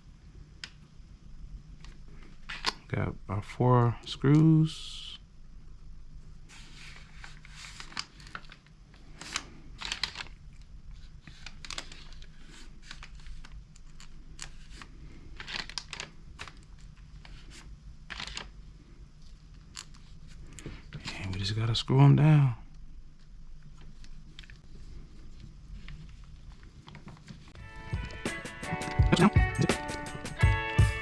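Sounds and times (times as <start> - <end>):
faint low hum: 0.0 - 28.2.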